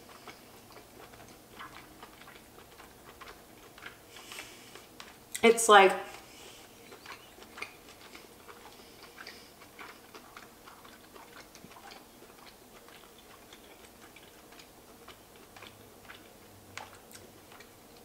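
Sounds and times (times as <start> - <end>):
person chewing with wet mouth clicks: 0.0 - 5.4, 6.1 - 18.0.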